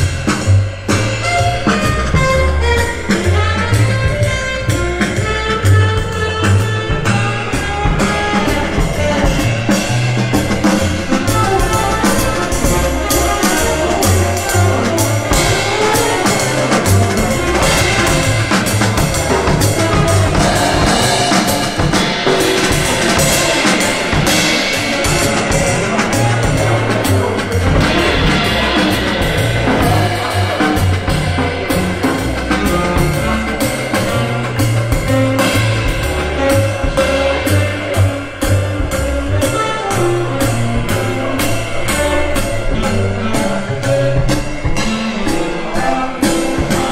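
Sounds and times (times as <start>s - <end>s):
deep bass notes: 0.0s - 46.9s
drum kit beat: 0.0s - 46.9s.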